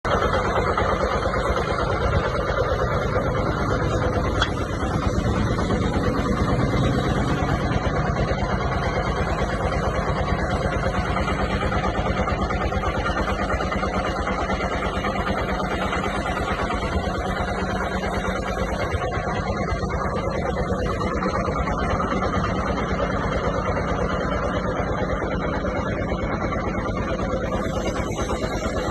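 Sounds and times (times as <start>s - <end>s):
machinery pounding: 0.0s - 28.9s.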